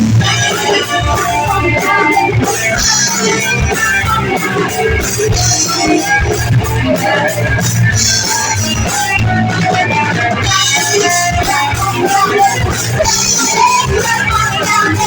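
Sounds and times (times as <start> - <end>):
electric guitar: 0.0 - 15.0
live band playing: 0.0 - 15.0.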